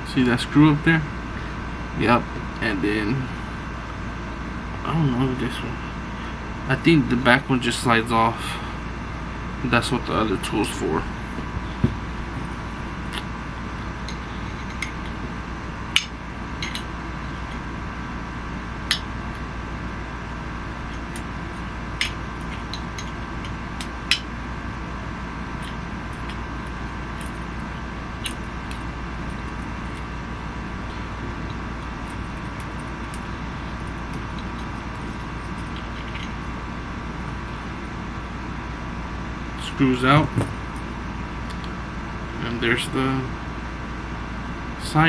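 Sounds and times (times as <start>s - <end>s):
steady background hum: 0.0s - 45.0s.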